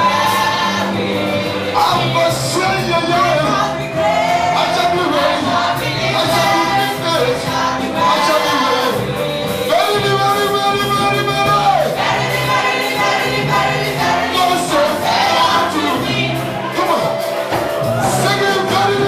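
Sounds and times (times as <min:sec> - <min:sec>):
band with steady bass line: 0:00.0 - 0:19.0
choir singing: 0:00.0 - 0:19.0.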